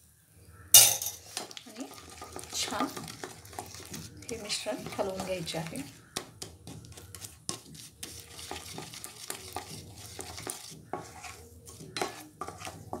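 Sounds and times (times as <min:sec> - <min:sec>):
syrup sizzling: 0:01.0 - 0:13.0
spatula scraping pan: 0:01.1 - 0:13.0.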